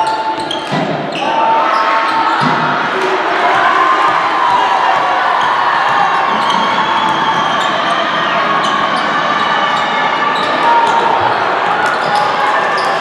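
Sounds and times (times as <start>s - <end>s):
murmur of spectators: 0.0s - 13.0s.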